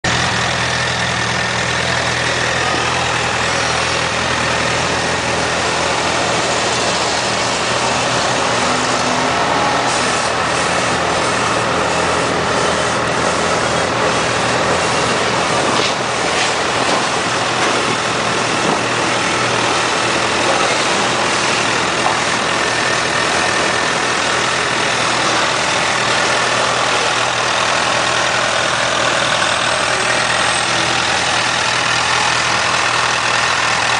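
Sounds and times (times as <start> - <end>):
motorcycle engine idling: 0.1 - 7.8, 12.8 - 33.9.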